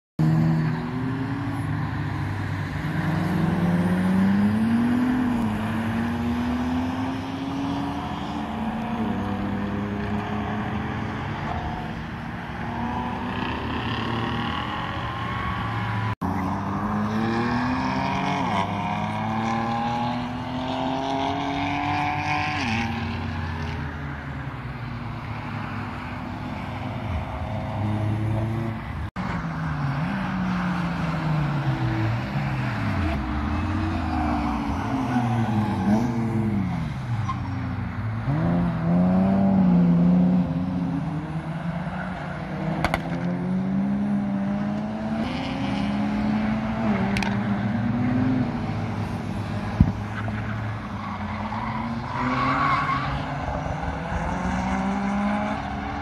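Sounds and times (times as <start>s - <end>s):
race car engines revving: 0.2s - 56.0s.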